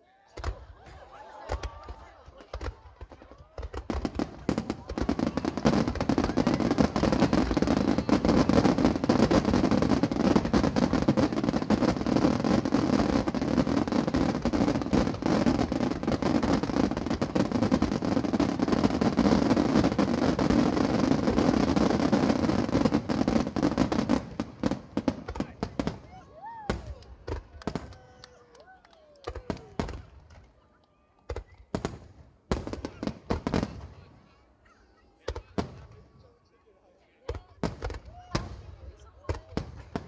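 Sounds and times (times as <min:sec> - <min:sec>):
fireworks barrage: 0:00.3 - 0:28.4, 0:29.2 - 0:30.6, 0:31.3 - 0:34.4, 0:35.0 - 0:36.2, 0:37.2 - 0:40.0
fireworks crackling: 0:00.3 - 0:34.4, 0:37.2 - 0:40.0.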